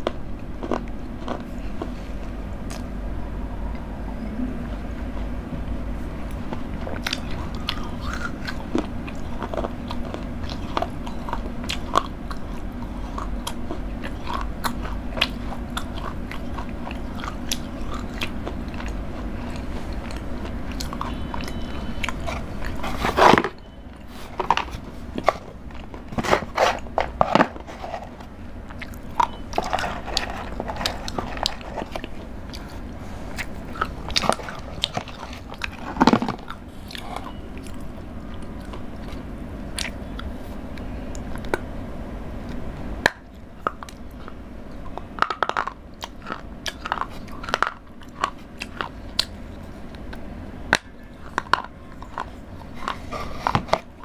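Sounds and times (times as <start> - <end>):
chocolate crunching while chewed: 0.0 - 3.9, 5.1 - 41.7, 42.4 - 54.0.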